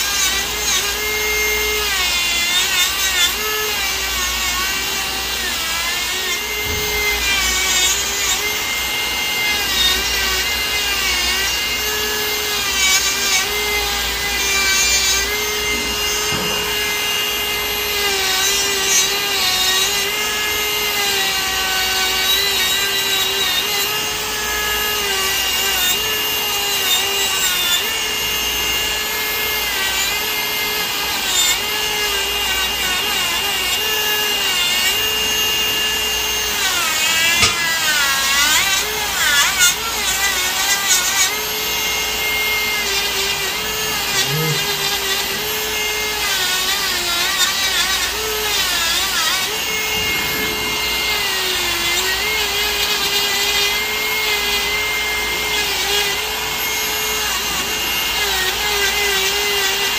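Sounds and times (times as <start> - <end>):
electric nail drill whine: 0.0 - 59.9.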